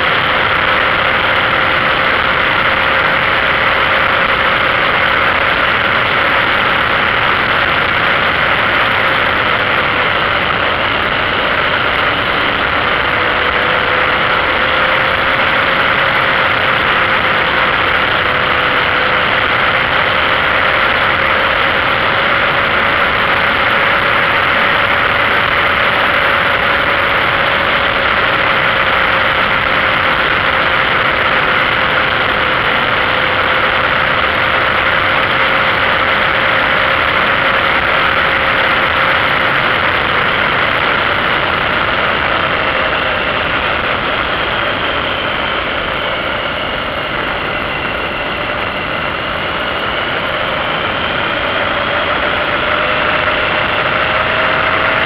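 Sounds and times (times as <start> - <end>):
motorcycle engine hum: 0.0 - 55.0
road noise: 0.0 - 55.0
rushing wind: 0.0 - 55.0.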